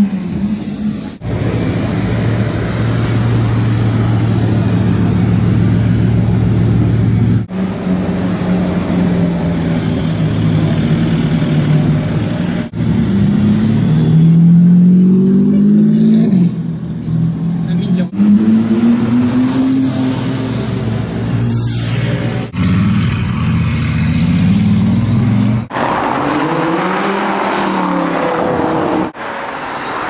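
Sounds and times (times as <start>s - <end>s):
sports car passing: 1.1s - 30.0s
sports car revving pulling away: 1.2s - 16.7s, 17.4s - 21.4s, 22.0s - 29.2s.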